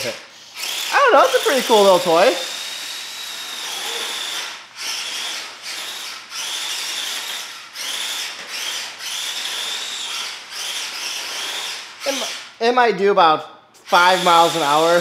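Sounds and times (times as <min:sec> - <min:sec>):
toy truck motor whining: 0:00.0 - 0:12.6, 0:13.8 - 0:15.0.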